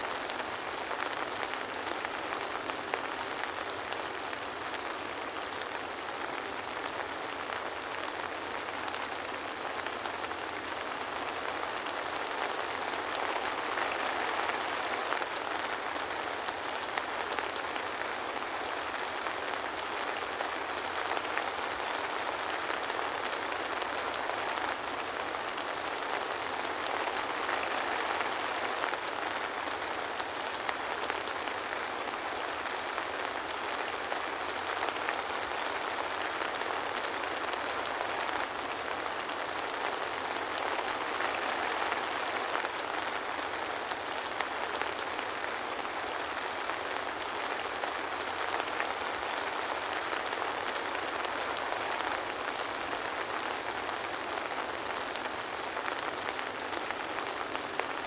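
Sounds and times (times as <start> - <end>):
soft rain hiss: 0.0 - 58.0.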